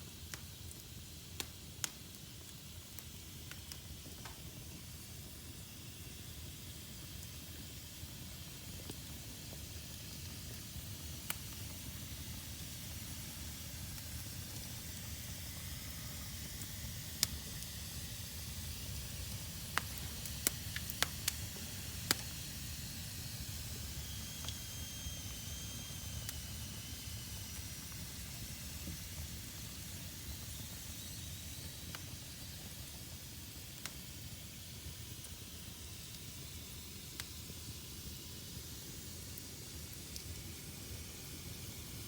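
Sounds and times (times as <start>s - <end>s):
fire burning in fireplace: 0.0s - 42.0s
fire crackles and pops: 0.0s - 42.0s.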